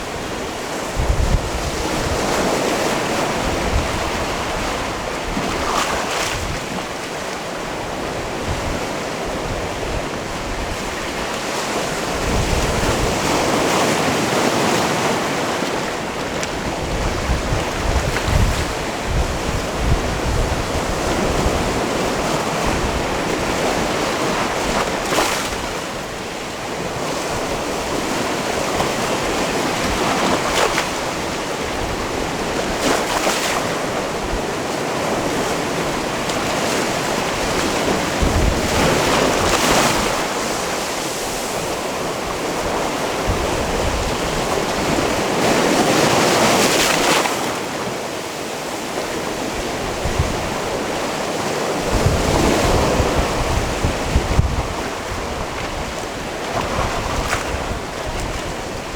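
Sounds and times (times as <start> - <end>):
wind rumble on microphone: 0.0 - 47.6, 48.9 - 58.9
waves washing against rocks: 0.0 - 58.9.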